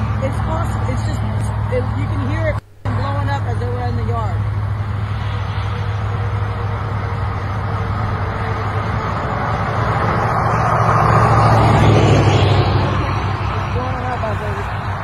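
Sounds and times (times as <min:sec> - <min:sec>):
highway traffic noise: 0:00.0 - 0:15.0
vehicle passing: 0:00.0 - 0:15.0.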